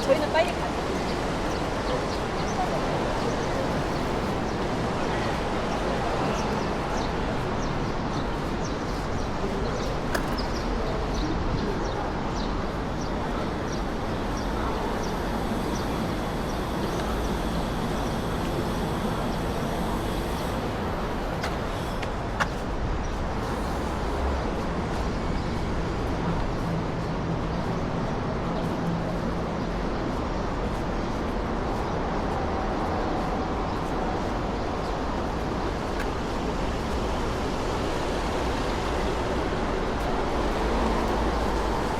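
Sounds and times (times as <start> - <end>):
road traffic noise: 0.0 - 41.9.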